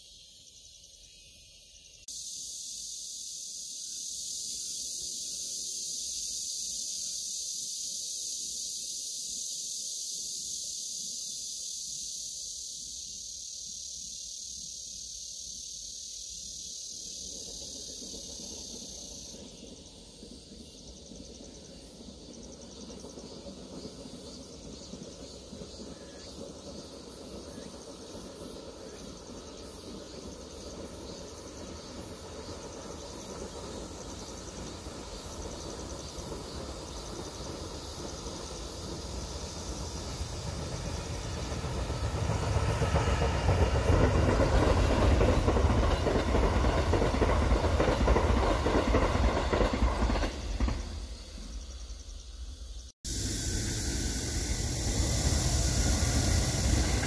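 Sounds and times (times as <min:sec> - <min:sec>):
passenger train passing: 0:10.0 - 0:57.0.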